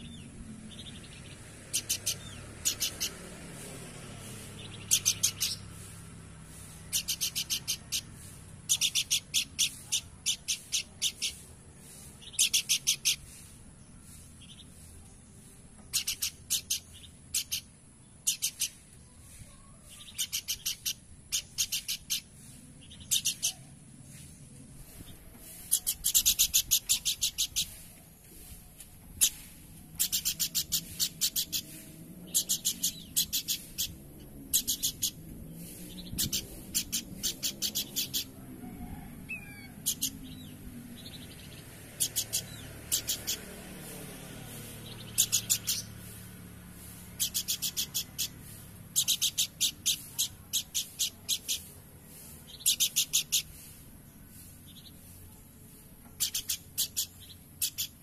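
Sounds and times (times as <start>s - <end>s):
bird chattering calls: 1.7s - 24.4s, 25.4s - 58.0s.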